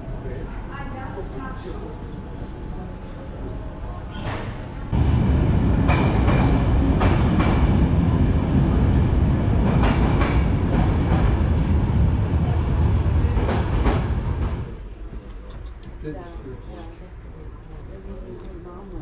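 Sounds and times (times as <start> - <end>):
train rumbling past: 0.0 - 15.2.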